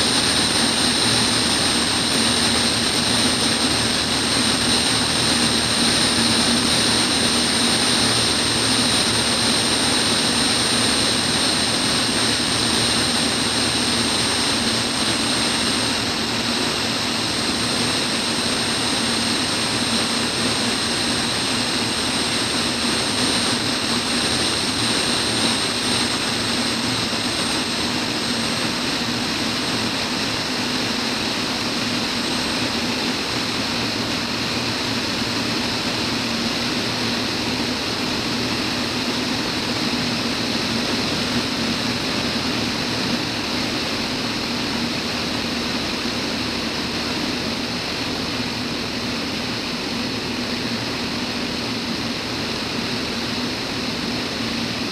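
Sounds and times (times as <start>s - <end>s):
propeller aircraft engine drone: 0.0s - 54.9s.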